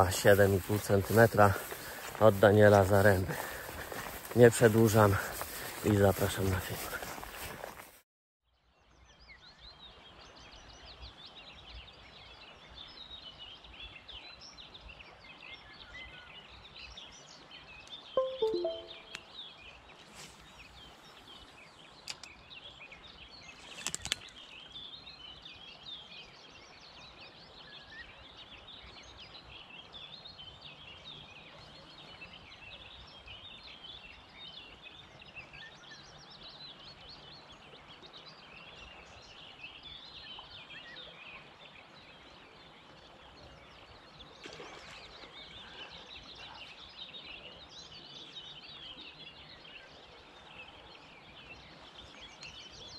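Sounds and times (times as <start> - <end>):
songbirds chirping and trilling: 0.0 - 7.8, 9.0 - 52.9.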